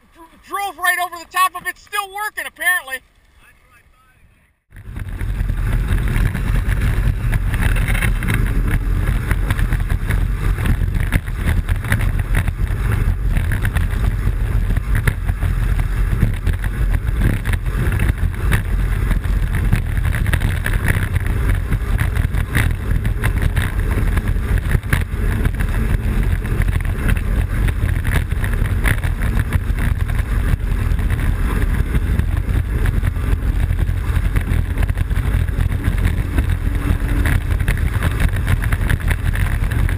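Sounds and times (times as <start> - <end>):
wheels rolling rumble: 0.0 - 39.9
wind buffeting microphone: 4.6 - 39.9.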